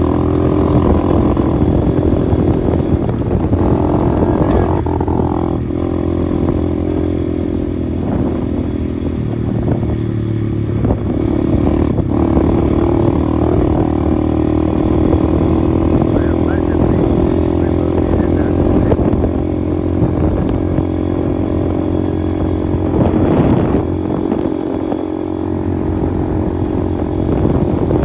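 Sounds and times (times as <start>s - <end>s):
motorbike engine running: 0.0s - 28.0s.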